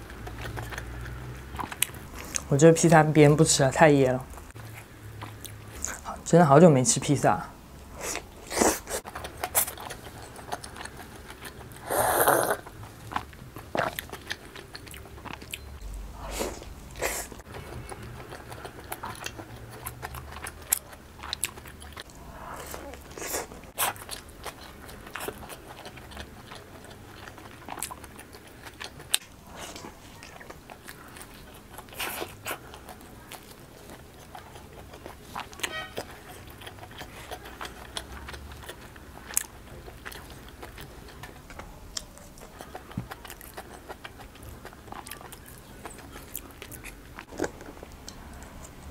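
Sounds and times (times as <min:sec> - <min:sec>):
chewing pizza crust crunches: 0:08.1 - 0:16.5, 0:17.4 - 0:48.9.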